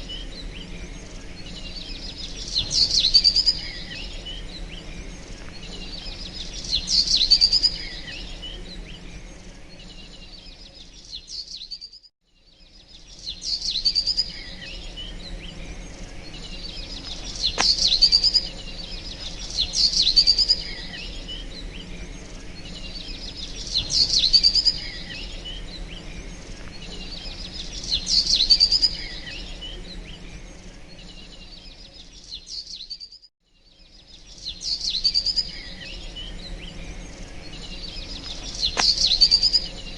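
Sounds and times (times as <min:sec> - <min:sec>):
steady low hum: 0:00.0 - 0:11.3, 0:12.4 - 0:32.5, 0:33.7 - 0:39.9
small birds chirping: 0:00.0 - 0:39.9.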